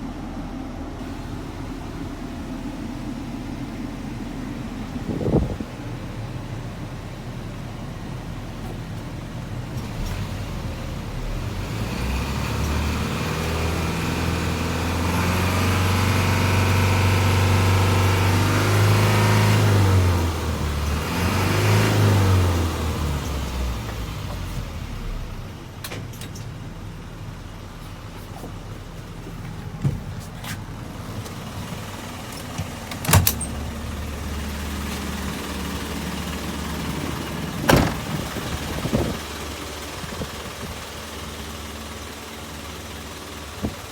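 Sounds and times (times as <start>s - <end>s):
diesel truck engine revving: 1.0s - 25.8s, 30.0s - 43.9s.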